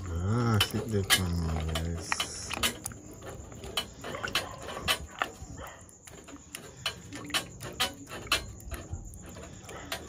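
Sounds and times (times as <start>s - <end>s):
plastic spoon scraping a pot: 0.0s - 10.0s.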